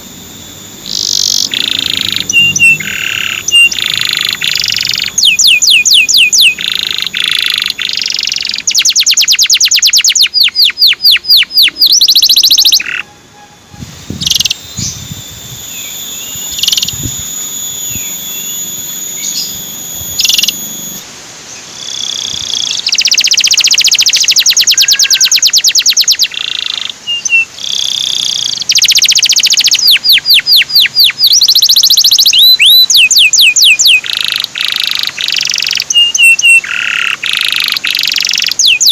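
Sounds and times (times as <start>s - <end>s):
canary singing trills: 0.6s - 38.9s.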